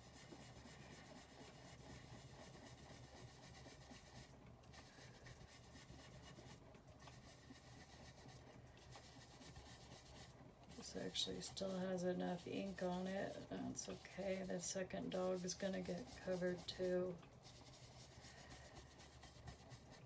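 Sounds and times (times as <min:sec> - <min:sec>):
faint scratchy rubbing on card: 0:00.0 - 0:20.0.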